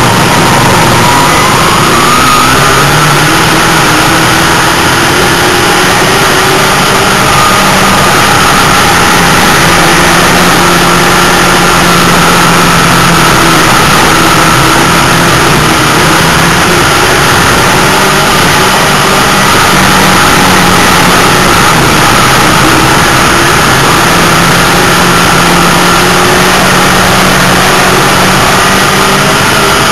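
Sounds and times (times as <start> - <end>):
race car engine from inside: 0.0 - 29.9.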